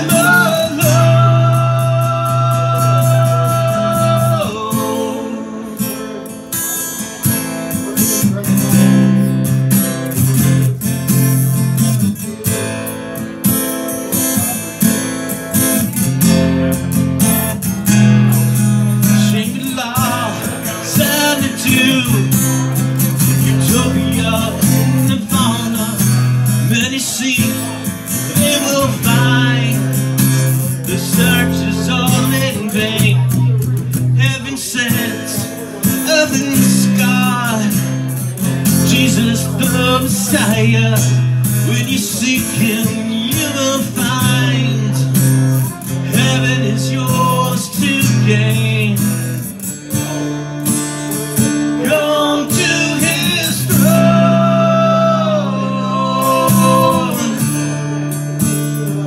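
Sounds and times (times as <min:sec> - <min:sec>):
man singing: 0:00.0 - 0:12.9, 0:13.6 - 0:59.0
acoustic guitar strumming: 0:00.0 - 0:59.0.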